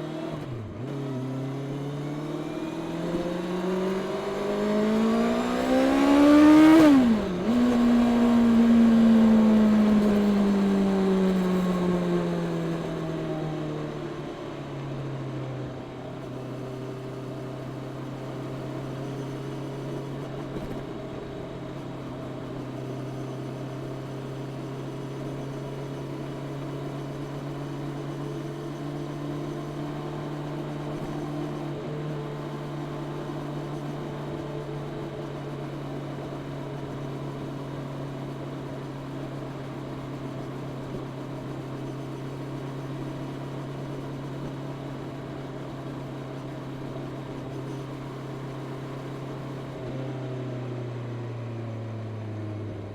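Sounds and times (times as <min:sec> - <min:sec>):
motorcycle engine cruising: 0:00.0 - 0:52.9
wind and road noise: 0:00.0 - 0:52.9.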